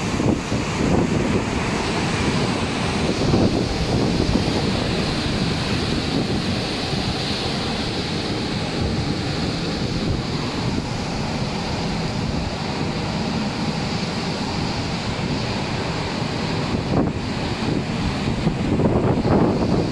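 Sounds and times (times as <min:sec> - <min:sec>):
rough sea waves breaking: 0:00.0 - 0:19.9
wind rumbling on microphone: 0:00.0 - 0:19.9.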